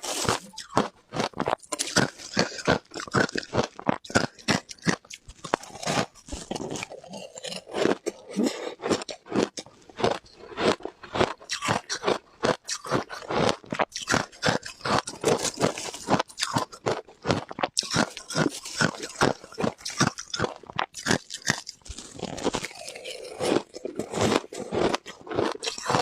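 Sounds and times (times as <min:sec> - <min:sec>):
mouth crunching ice: 0:00.0 - 0:26.0.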